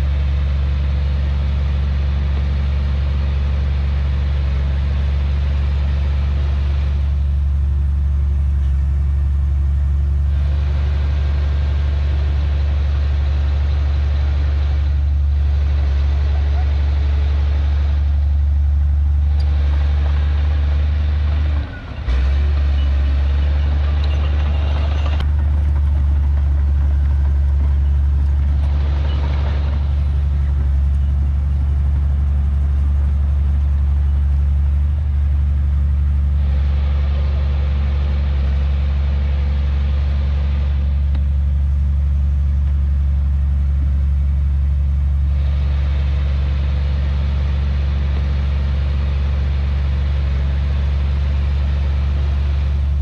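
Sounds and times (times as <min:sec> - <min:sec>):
heavy diesel machinery droning: 0:00.0 - 0:53.0.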